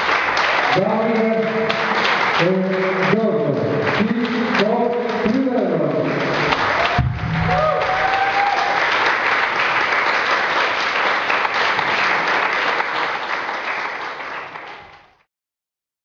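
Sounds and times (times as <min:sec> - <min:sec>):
audience applauding: 0:00.0 - 0:15.3.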